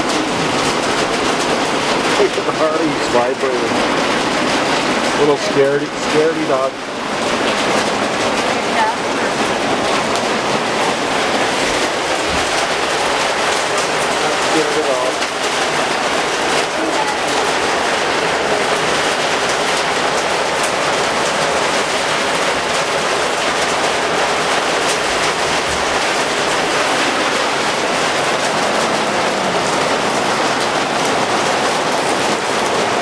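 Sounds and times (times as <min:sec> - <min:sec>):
heavy rain with hail: 0:00.0 - 0:33.0.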